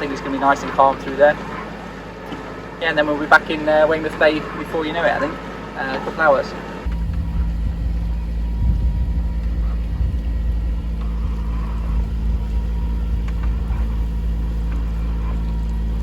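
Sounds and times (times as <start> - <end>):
boat diesel engine rumbling: 0.0 - 16.0.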